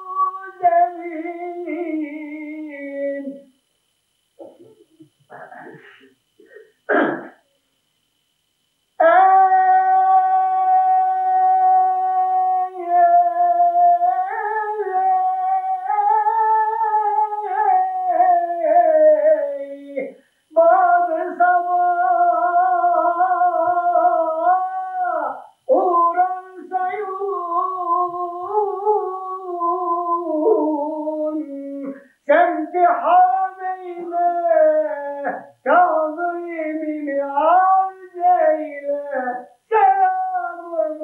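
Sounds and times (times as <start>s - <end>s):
person singing unaccompanied: 0.0s - 3.6s, 8.9s - 41.0s.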